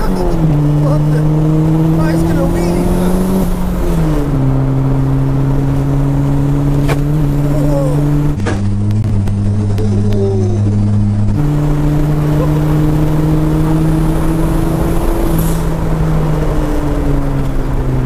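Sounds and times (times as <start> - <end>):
car engine cruising: 0.0 - 18.0
road noise: 0.0 - 18.0.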